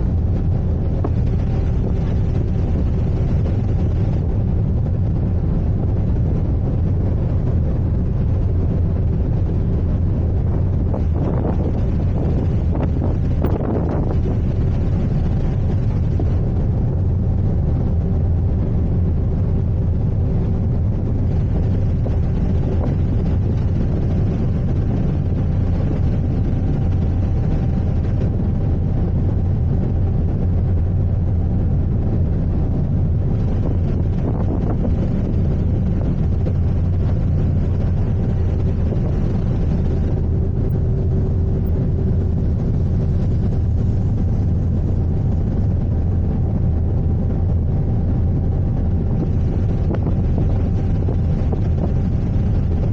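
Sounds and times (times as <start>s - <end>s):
faint machinery hum: 0.0s - 52.9s
ship engine rumble: 0.0s - 52.9s.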